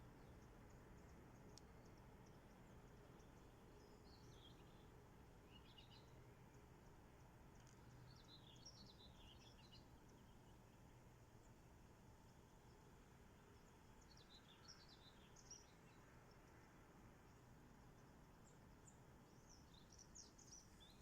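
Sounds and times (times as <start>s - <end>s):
faint birdsong twittering: 0.0s - 21.0s.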